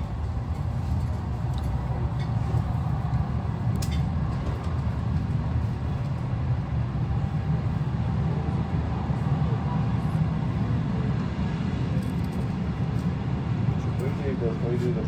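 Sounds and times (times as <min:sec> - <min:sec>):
train running gear rumbling: 0:00.0 - 0:15.0.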